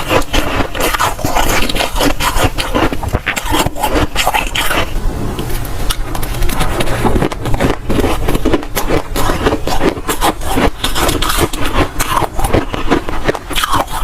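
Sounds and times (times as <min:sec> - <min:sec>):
frost crunching as chewed: 0:00.0 - 0:14.0.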